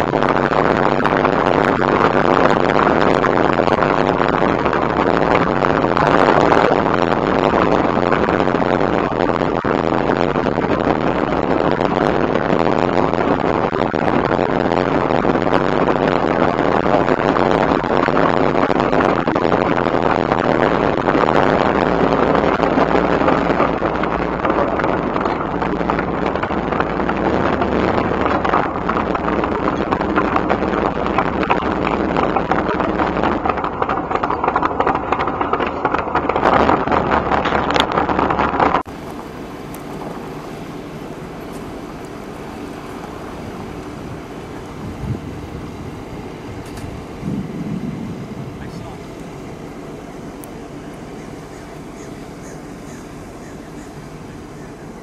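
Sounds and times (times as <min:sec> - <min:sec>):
car engine running: 0:00.0 - 0:55.0
road noise: 0:00.0 - 0:55.0
wind noise: 0:00.0 - 0:55.0.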